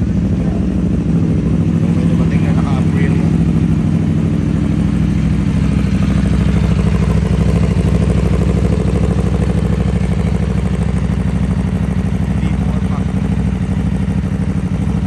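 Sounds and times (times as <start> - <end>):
motorcycle idling: 0.0 - 15.0.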